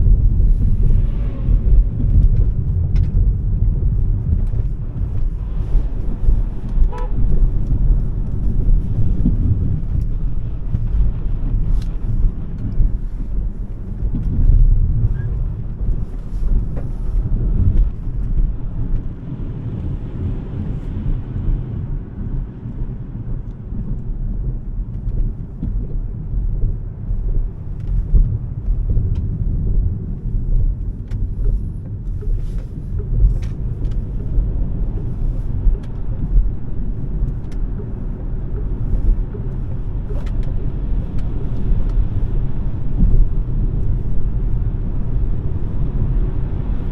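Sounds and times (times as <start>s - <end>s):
tyre and road noise: 0.0s - 46.9s.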